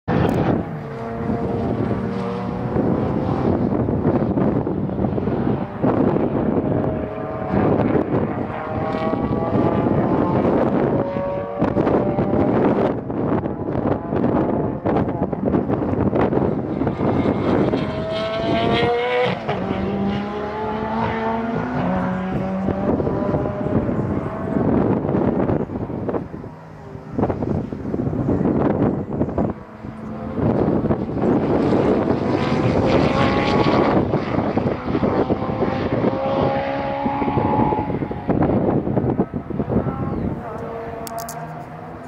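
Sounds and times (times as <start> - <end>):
race car engine accelerating: 0.1 - 42.0.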